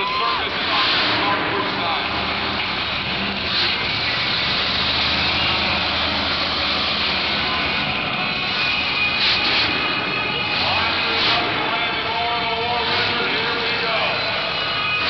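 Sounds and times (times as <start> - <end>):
monster truck engine running: 0.0 - 15.0.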